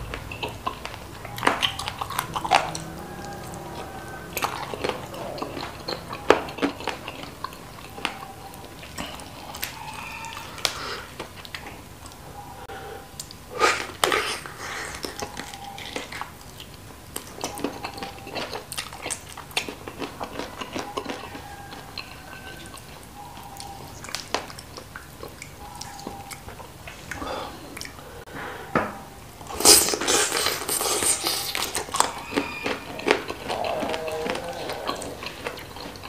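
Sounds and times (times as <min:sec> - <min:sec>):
wet chewing and lip smacks: 0:00.1 - 0:12.2, 0:13.2 - 0:28.0, 0:29.5 - 0:36.0.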